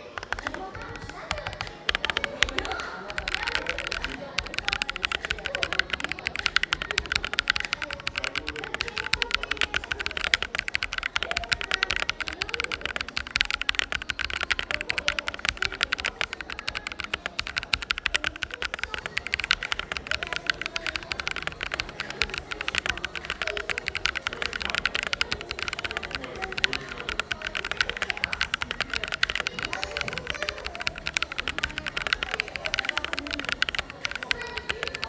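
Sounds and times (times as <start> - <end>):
faint cafe chatter: 0.0 - 35.0
mechanical keyboard typing: 0.0 - 35.0.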